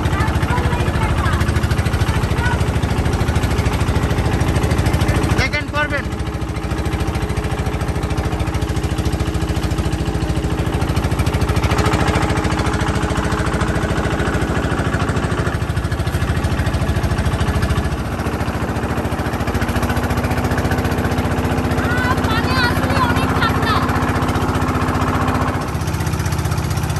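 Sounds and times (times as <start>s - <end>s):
boat engine chugging: 0.0s - 26.9s.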